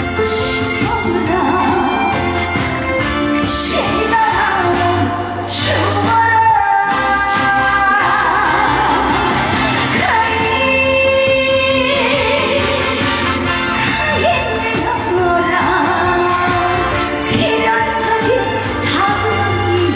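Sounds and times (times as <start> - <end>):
band accompaniment: 0.0 - 19.9
woman singing: 0.0 - 19.9.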